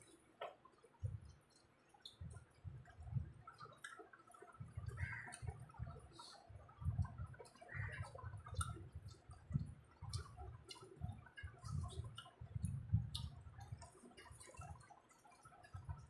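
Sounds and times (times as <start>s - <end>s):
chewing and wet smacks: 0.0s - 16.0s.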